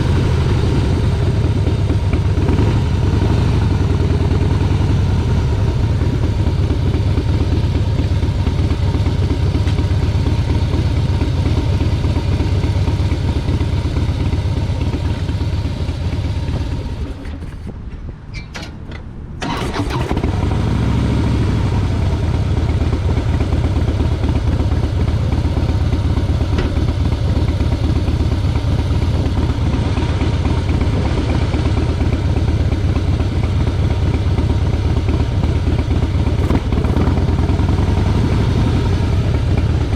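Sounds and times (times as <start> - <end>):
motorcycle engine running: 0.0 - 17.7, 19.4 - 39.9.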